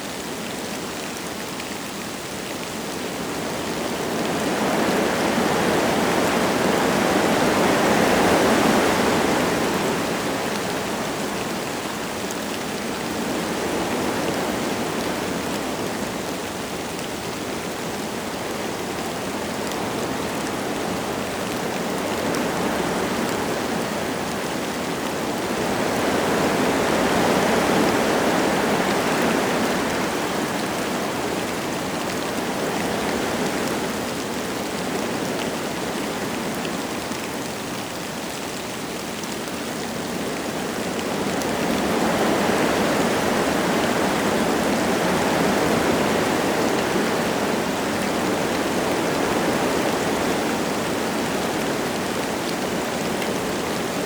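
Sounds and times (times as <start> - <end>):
light rain falling: 0.0 - 54.0
wind gusting through trees: 0.0 - 54.0.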